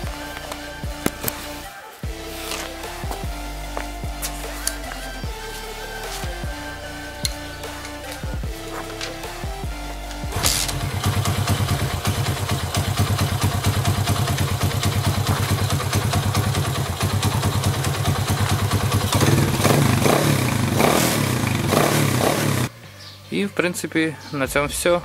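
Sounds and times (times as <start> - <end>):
moped engine idling and revving: 0.0 - 22.7.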